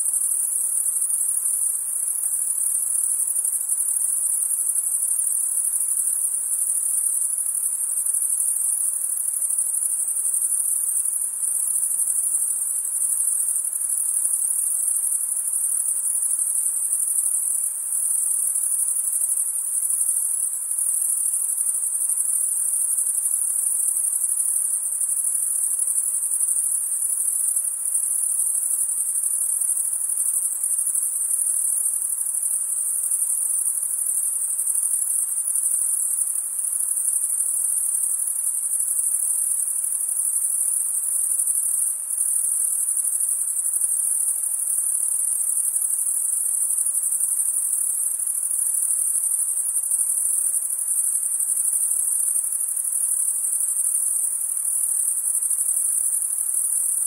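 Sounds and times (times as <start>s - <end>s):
night insects chorus: 0.0s - 57.0s.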